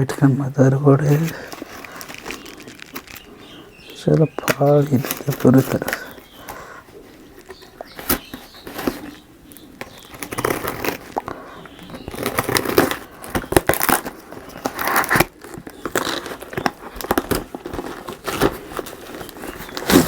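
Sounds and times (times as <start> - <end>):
packaging being torn and crinkled: 1.0 - 6.6, 7.4 - 20.0.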